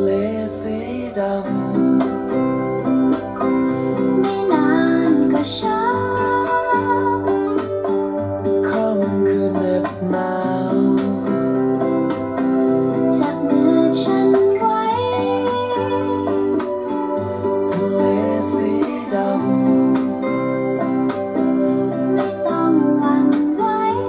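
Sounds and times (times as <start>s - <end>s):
slow song with plucked guitar: 0.0s - 24.0s.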